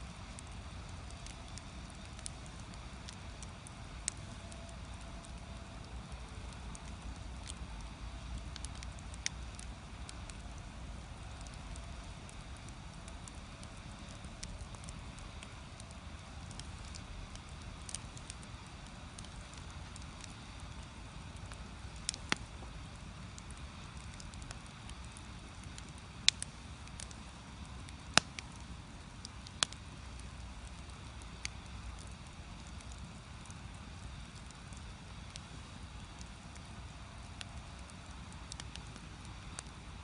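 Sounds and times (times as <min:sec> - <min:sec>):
burning logs cracking: 0:00.0 - 0:40.0
wood fire rumbling: 0:00.0 - 0:40.0.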